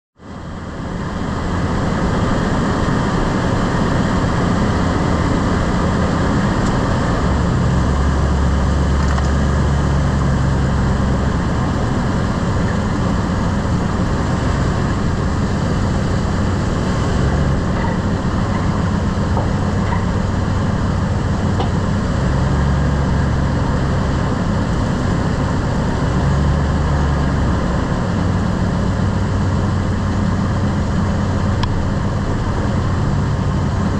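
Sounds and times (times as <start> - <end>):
low engine drone: 0.2 - 33.9
truck road noise: 0.2 - 33.9.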